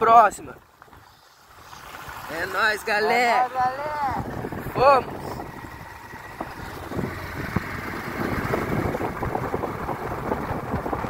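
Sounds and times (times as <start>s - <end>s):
wind and road rumble: 0.0s - 11.0s
motorcycle engine running: 0.6s - 11.0s.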